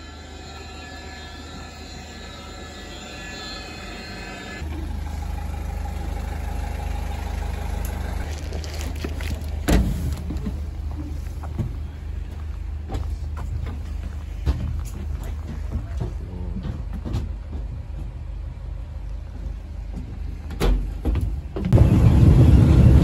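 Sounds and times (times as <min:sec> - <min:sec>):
engine rumbling at standstill: 0:03.9 - 0:23.0.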